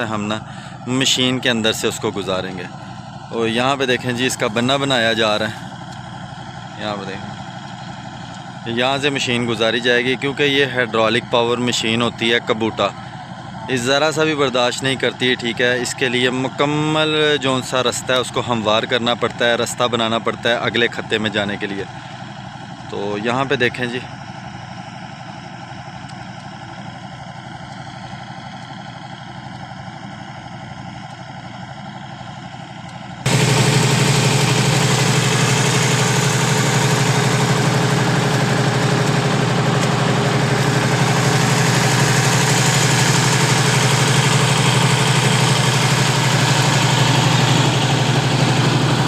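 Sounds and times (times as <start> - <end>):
combine harvester diesel engine: 0.0 - 49.0.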